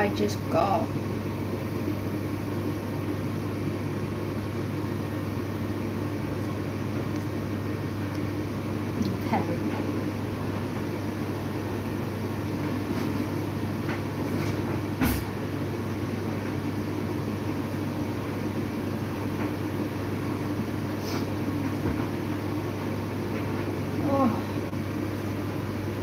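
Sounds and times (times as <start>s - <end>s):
kitchen appliance humming: 0.0s - 26.0s.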